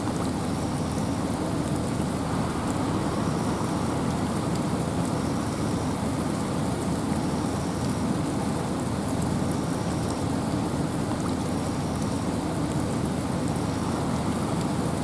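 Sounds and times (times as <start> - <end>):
faint raindrop ticks: 0.0 - 15.0
wind and rain: 0.0 - 15.0.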